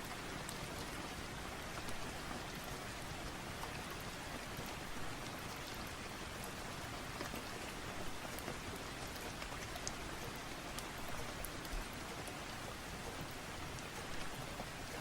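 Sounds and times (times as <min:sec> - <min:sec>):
light ticks of rain: 0:00.0 - 0:15.0
steady rain hiss: 0:00.0 - 0:15.0.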